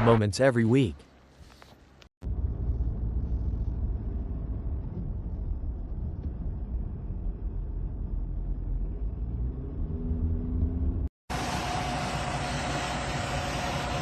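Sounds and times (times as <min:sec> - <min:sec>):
road noise: 0:01.1 - 0:14.0
vehicle engine hum: 0:01.6 - 0:14.0.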